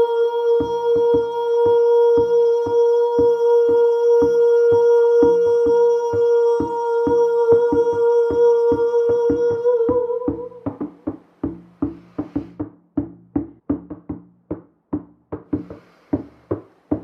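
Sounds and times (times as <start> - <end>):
hand drum beaten steadily: 0.0 - 17.0.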